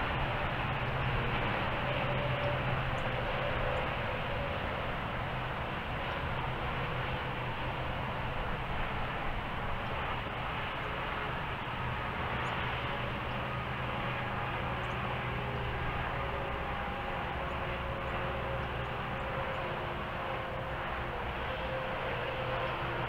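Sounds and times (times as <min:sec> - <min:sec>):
distant vehicle noise: 0:00.0 - 0:23.0.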